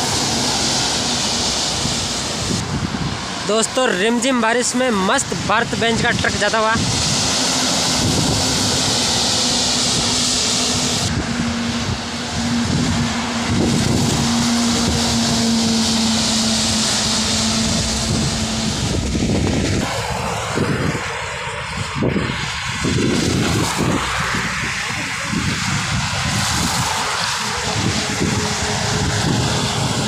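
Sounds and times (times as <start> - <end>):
truck engines humming: 0.0 - 30.0
tyres hissing on wet road: 0.0 - 30.0.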